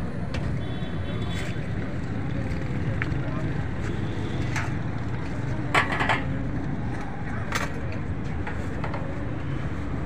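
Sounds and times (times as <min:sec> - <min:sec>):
low rumble of street traffic: 0:00.0 - 0:10.0.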